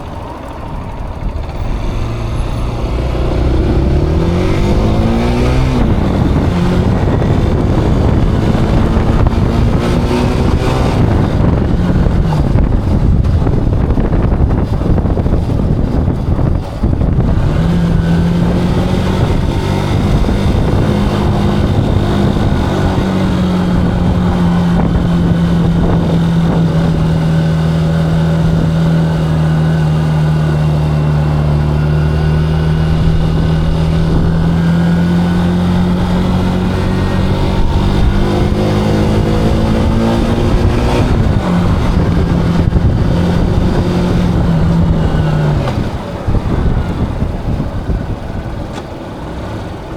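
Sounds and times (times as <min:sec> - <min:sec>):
motorcycle engine running: 0:00.0 - 0:49.9
rushing wind: 0:00.0 - 0:49.9.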